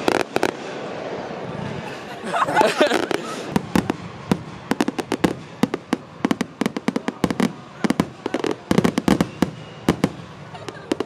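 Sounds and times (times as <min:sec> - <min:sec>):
fireworks crackling and popping: 0:00.0 - 0:01.0, 0:02.6 - 0:11.0.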